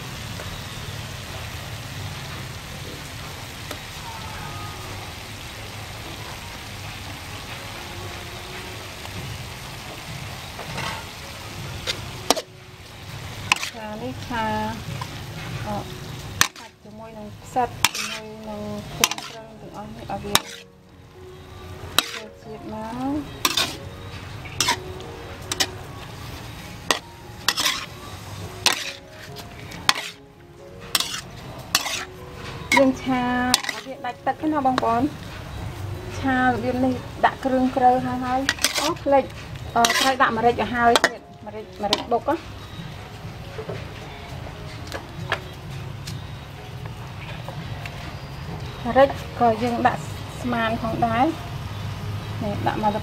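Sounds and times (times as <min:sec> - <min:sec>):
meat sizzling in a hot pan: 0:00.0 - 0:43.3.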